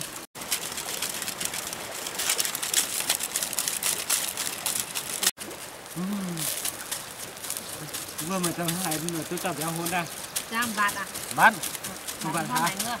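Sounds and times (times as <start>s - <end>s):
river water rushing: 0.0s - 13.0s
wood fire crackling: 0.0s - 13.0s.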